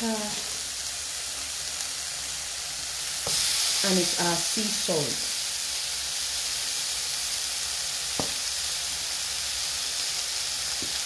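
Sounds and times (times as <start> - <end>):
fruit sizzling in a pan: 0.0 - 11.0.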